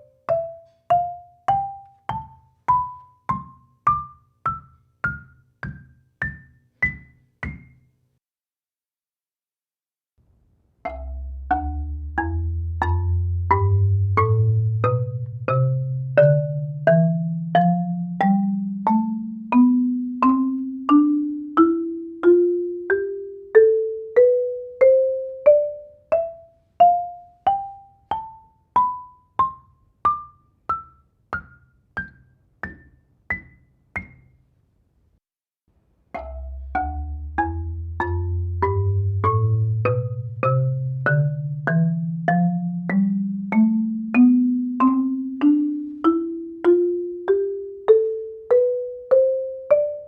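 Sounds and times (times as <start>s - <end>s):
marimba ascending scale: 0.0s - 7.8s, 10.8s - 34.2s, 36.2s - 50.0s.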